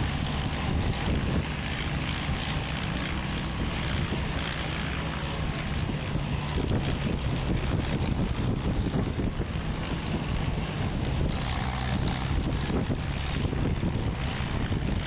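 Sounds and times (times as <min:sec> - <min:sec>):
tractor engine under load: 0:00.0 - 0:15.0
wind buffeting microphone: 0:00.0 - 0:15.0.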